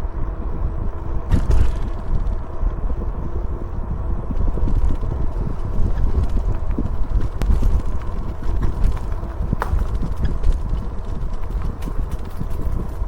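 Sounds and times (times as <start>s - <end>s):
faint steady whine: 0.0s - 13.0s
road noise: 0.0s - 13.0s
wind rumble on microphone: 0.0s - 13.0s.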